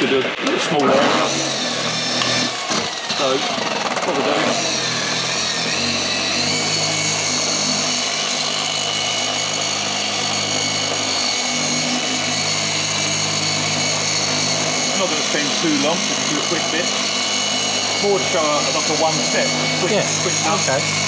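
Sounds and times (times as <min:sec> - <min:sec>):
polisher humming with high whine: 0:00.0 - 0:21.0.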